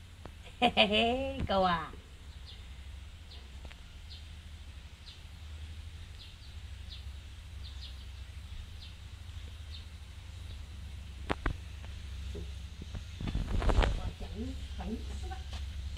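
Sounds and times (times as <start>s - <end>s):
steady low rumble: 0.0s - 15.9s
small birds chirping: 1.4s - 15.9s.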